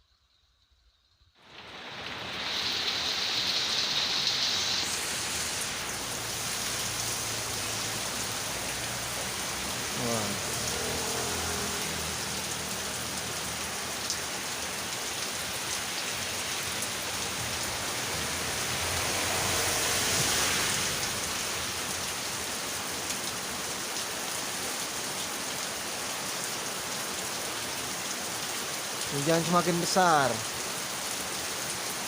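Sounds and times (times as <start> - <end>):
heavy rain hissing on a road: 1.4 - 32.0.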